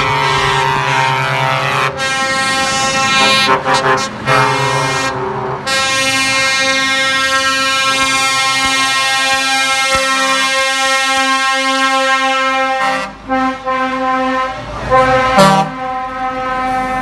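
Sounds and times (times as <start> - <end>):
truck air horns: 0.0 - 17.0.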